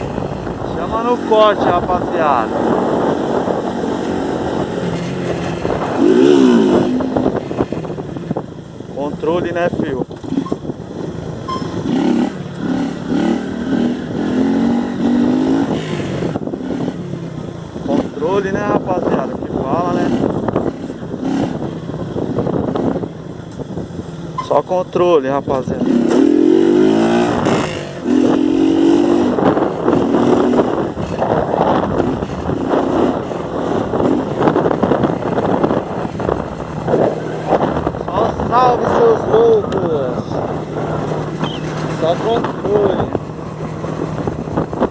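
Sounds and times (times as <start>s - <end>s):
motorcycle revving: 0.0s - 44.9s
wind noise: 0.0s - 44.9s.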